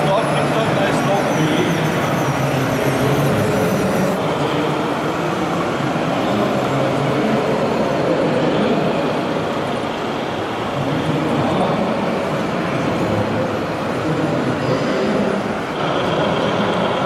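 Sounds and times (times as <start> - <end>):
exhibition hall din: 0.0 - 17.0
model trucks engine hum: 0.0 - 17.0.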